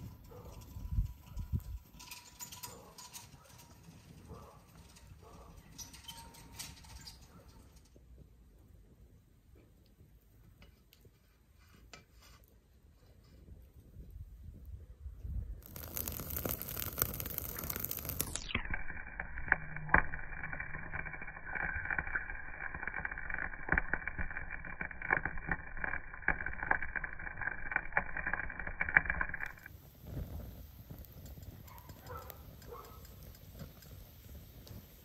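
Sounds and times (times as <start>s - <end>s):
wood fire crackling: 0.0s - 14.6s, 15.6s - 35.0s.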